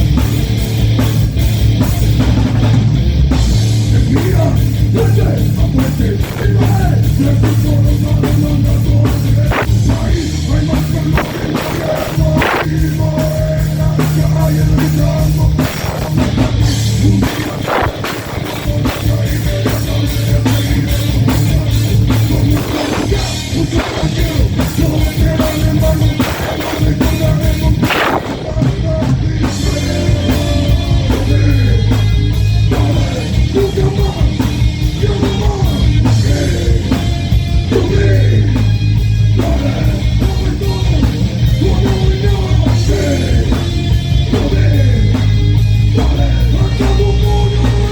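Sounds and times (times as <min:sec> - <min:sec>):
pounding drum kit: 0:00.0 - 0:47.9
rock band playing: 0:00.0 - 0:47.9.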